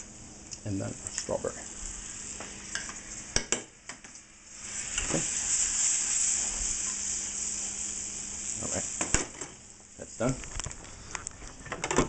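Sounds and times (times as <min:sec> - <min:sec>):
mushrooms sizzling in a frying pan: 0:00.0 - 0:11.1.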